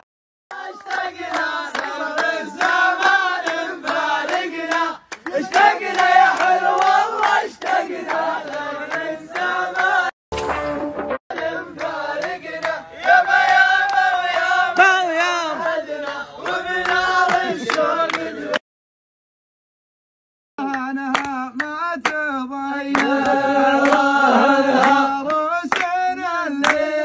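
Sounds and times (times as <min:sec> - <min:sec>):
men chanting together: 0:00.5 - 0:10.1, 0:11.3 - 0:18.6, 0:21.6 - 0:27.0.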